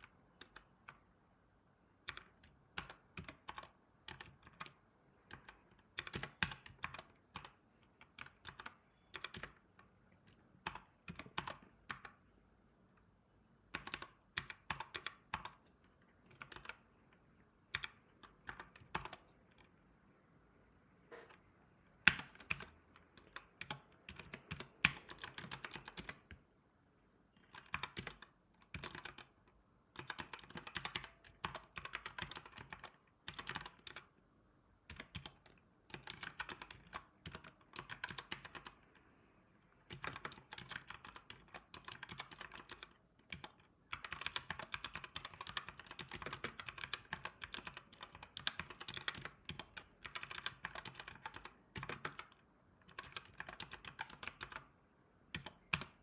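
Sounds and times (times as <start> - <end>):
keyboard typing: 0.0 - 1.2, 1.9 - 12.3, 12.9 - 19.9, 21.0 - 26.5, 27.3 - 34.2, 34.8 - 56.0.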